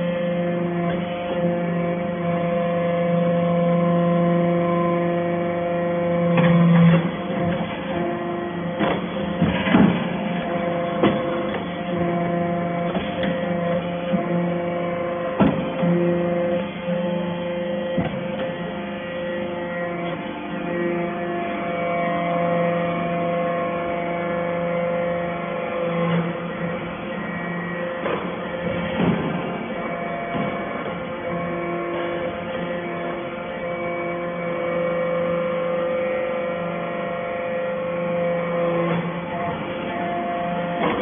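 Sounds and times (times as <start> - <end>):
baler motor humming: 0.0 - 41.0.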